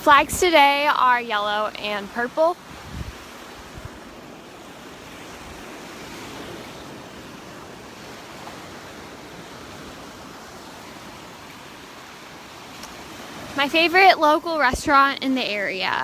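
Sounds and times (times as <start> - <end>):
surf washing onto beach: 0.0 - 16.0.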